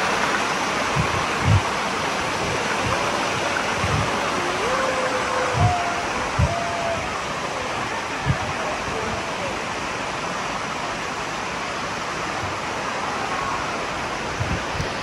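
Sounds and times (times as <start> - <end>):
water rushing down cascades: 0.0 - 15.0.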